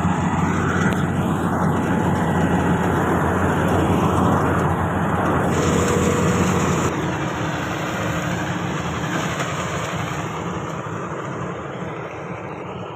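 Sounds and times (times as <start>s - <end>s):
combine harvester engine running: 0.0s - 12.9s.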